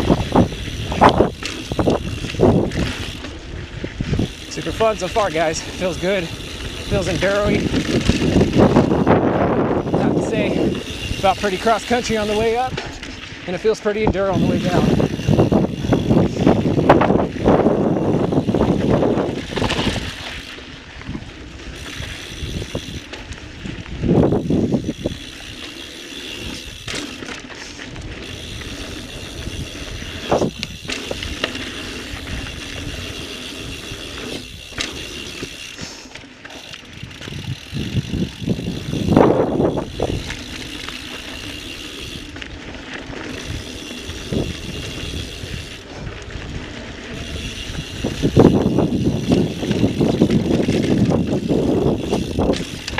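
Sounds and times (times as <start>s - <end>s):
bike knocks and rattles: 0.0s - 13.3s, 13.9s - 21.2s, 21.8s - 46.4s, 47.1s - 52.9s
bicycle freehub buzzing: 0.0s - 52.9s
tyres rolling on dirt: 0.0s - 52.9s.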